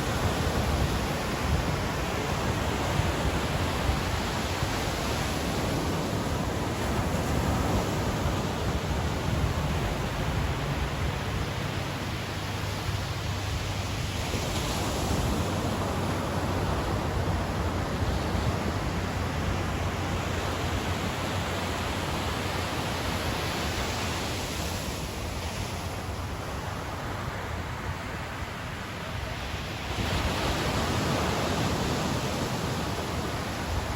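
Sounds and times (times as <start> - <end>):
ocean surf breaking on beach: 0.0 - 33.9.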